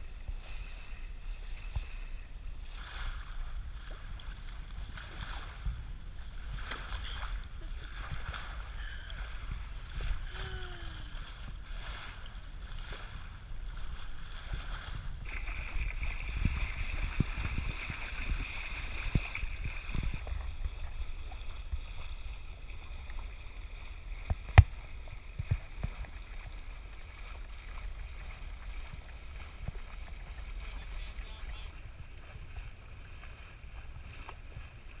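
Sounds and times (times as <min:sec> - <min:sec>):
water washing past hull: 0:00.0 - 0:35.0
wind buffeting microphone: 0:00.0 - 0:35.0.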